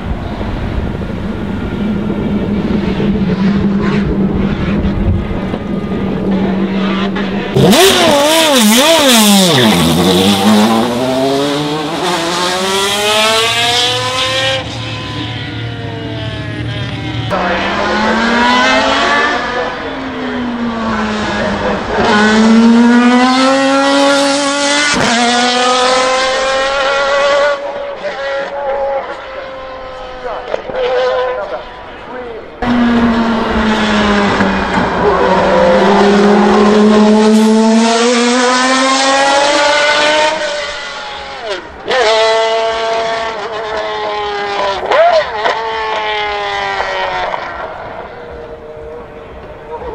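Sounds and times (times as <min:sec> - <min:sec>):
racing engine revving and accelerating: 0:00.0 - 0:49.9.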